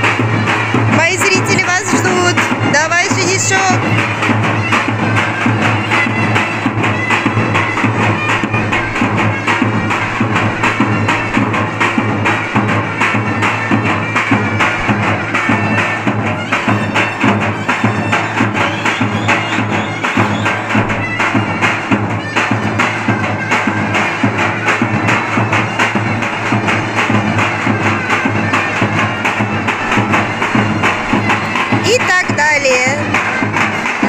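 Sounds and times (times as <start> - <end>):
drum beaten with stick: 0.0 - 34.0
shrill reed pipe: 0.0 - 34.0.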